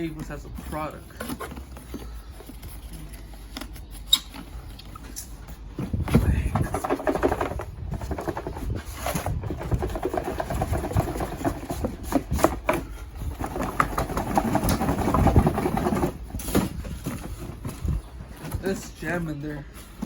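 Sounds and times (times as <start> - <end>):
cardboard box scraping and rustling: 0.0 - 20.0.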